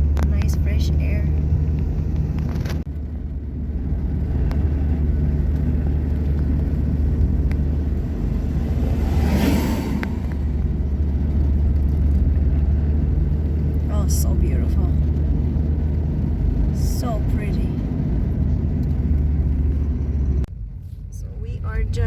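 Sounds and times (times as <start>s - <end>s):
car engine and road drone: 0.0s - 22.0s
tyre and road noise: 0.0s - 22.0s.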